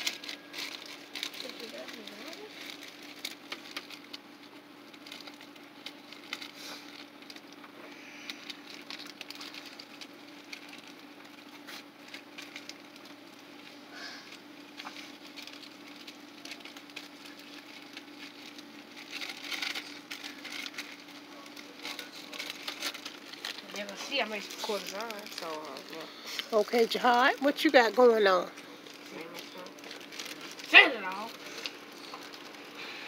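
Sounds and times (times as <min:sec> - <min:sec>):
plastic bag crinkling: 0:00.0 - 0:33.0.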